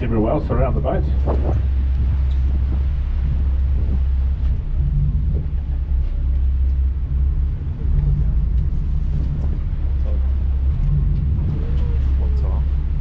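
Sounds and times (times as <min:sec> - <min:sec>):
boat engines rumbling: 0:00.0 - 0:13.0.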